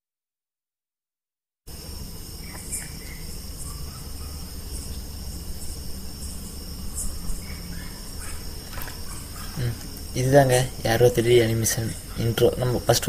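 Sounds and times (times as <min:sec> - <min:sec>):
insects chirping: 0:01.7 - 0:13.0.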